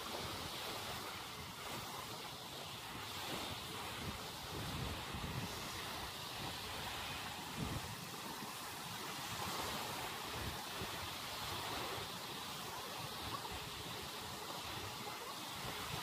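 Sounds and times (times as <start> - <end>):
small waves breaking on shore: 0.0 - 16.0.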